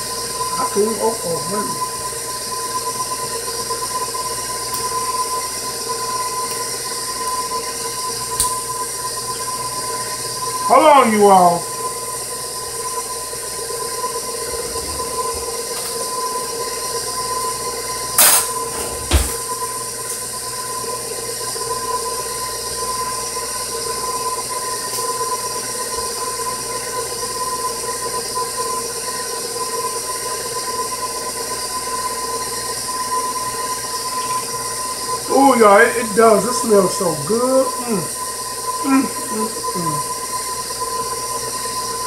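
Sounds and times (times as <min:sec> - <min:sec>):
stand mixer motor whine: 0:00.0 - 0:42.0.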